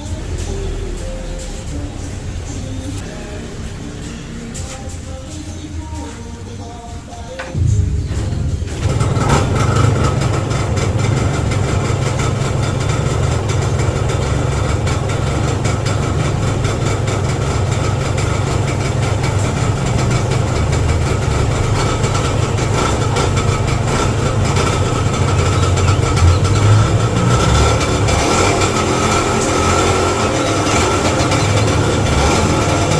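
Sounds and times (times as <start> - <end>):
two-stroke engine idling: 0.0 - 32.9.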